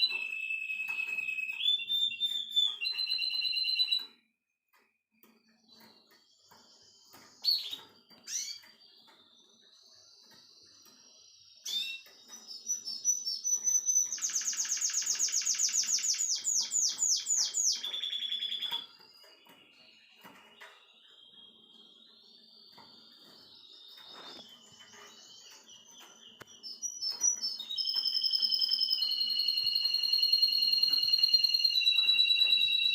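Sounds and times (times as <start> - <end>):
canary singing: 0.0 - 32.9.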